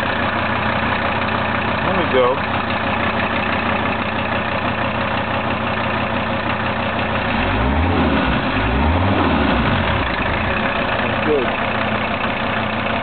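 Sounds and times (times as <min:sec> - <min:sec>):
diesel engine idling and revving: 0:00.0 - 0:13.0.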